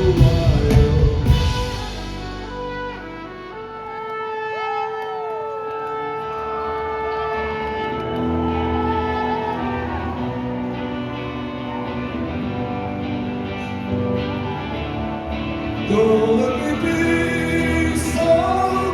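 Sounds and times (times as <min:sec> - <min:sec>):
live rock band playing: 0:00.0 - 0:04.8, 0:07.4 - 0:18.9.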